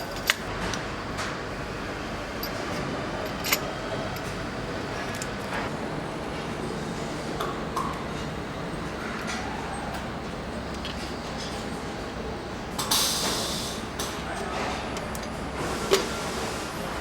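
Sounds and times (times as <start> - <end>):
factory machinery hum: 0.0 - 17.0.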